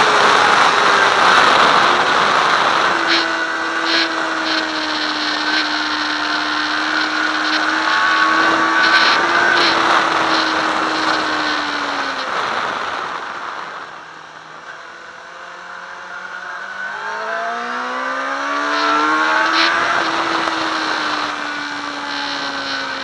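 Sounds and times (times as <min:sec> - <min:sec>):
wind rush over microphone: 0:00.0 - 0:14.2, 0:18.6 - 0:23.0
motorcycle engine running: 0:00.0 - 0:23.0.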